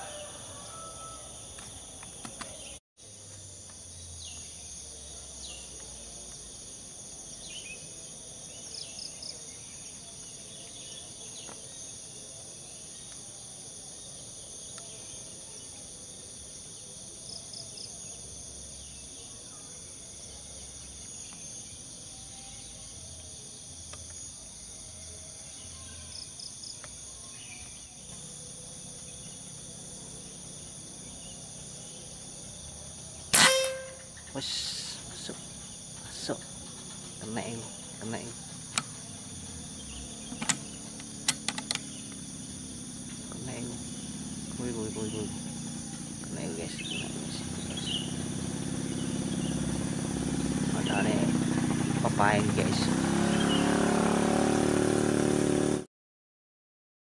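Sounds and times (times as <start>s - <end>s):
insect chorus: 0.0s - 55.7s.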